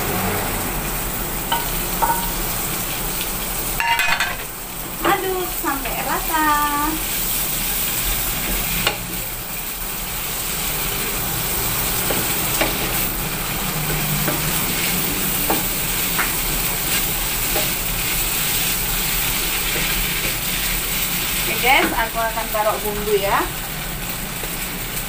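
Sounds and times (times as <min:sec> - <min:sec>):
food sizzling in oil in a wok: 0:00.0 - 0:25.0.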